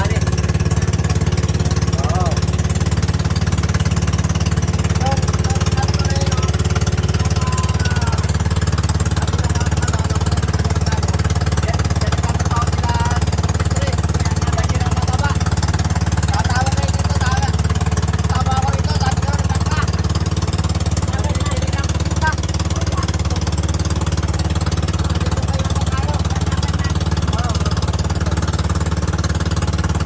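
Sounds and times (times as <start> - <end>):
small boat engine chugging: 0.0 - 30.0.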